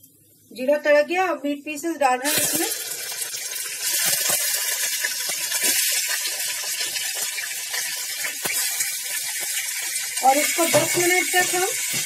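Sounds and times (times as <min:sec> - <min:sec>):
meat sizzling in hot fat: 0:02.2 - 0:12.0.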